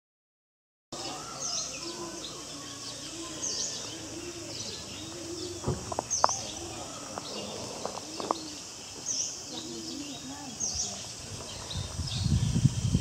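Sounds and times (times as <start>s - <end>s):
lower rounded bird call: 1.0s - 12.6s
steady high hiss: 1.0s - 13.0s.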